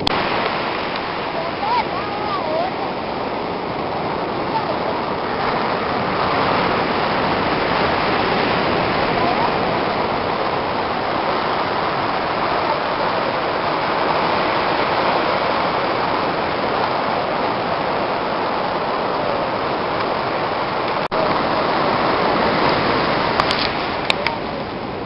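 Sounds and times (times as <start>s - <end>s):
ocean surf washing onto beach: 0.0s - 25.0s.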